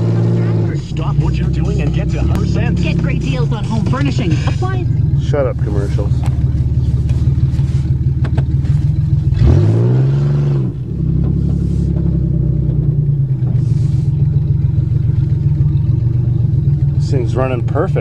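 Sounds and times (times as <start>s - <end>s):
car engine revving while driving: 0.0s - 18.0s.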